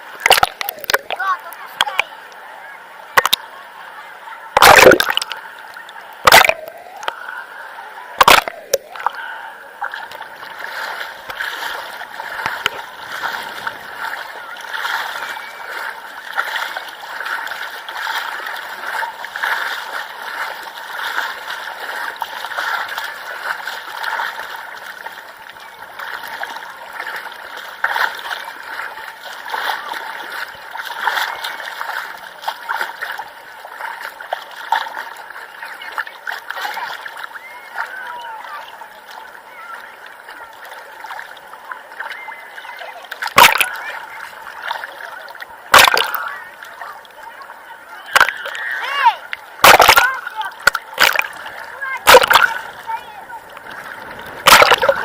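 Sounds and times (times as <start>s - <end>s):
sea water splashing: 0.0s - 55.0s.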